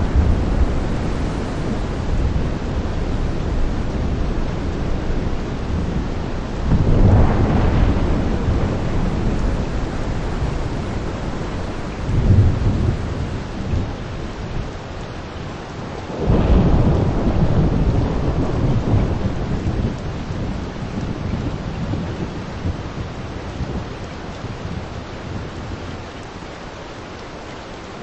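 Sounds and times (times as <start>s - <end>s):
thunder rumbling: 0.0s - 25.8s
heavy rain falling: 0.0s - 28.0s.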